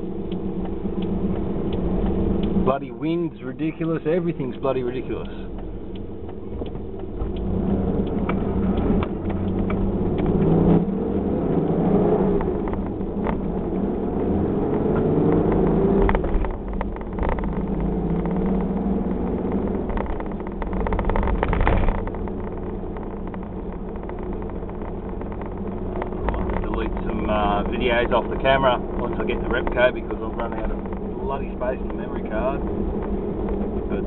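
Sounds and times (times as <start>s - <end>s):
car engine accelerating: 0.0s - 34.0s
road noise inside car: 0.0s - 34.0s.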